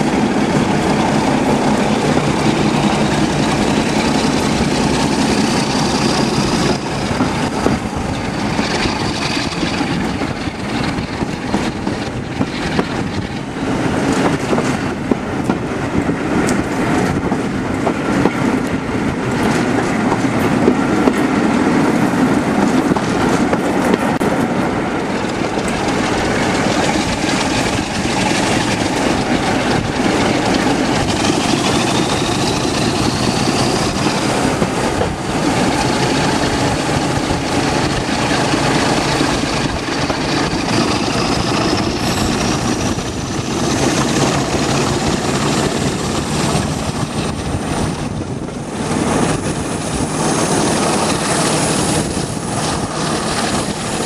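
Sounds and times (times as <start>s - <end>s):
diesel locomotive engine working hard: 0.0s - 54.0s
train wheels on rails: 0.0s - 54.0s.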